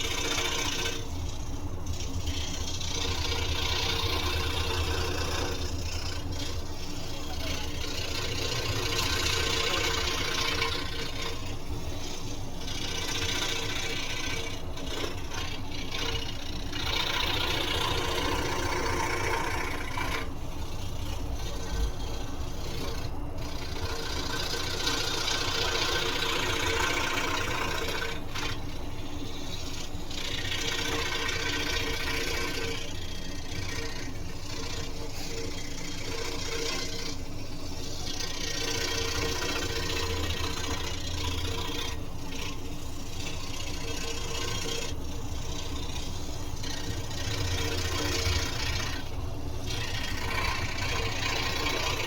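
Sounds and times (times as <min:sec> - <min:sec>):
scroll saw cutting wood: 0:00.0 - 0:52.0.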